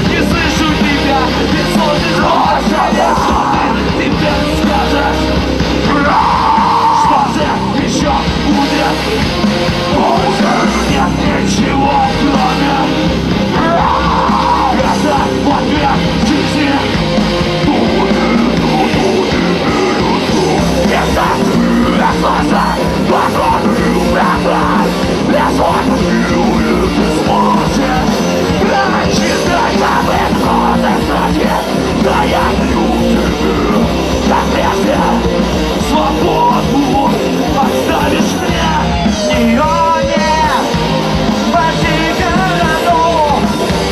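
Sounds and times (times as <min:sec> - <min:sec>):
heavy rock band playing: 0:00.0 - 0:43.9
singer yelling: 0:00.0 - 0:43.9.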